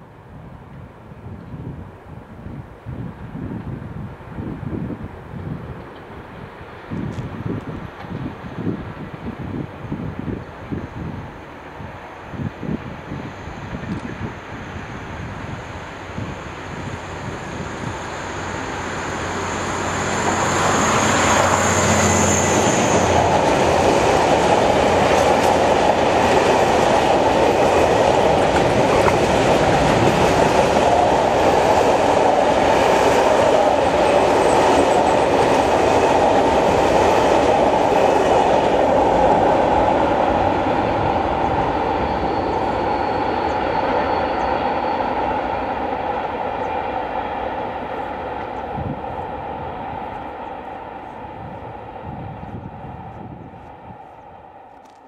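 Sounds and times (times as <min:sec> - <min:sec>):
diesel locomotive engine whining: 0:07.4 - 0:55.0.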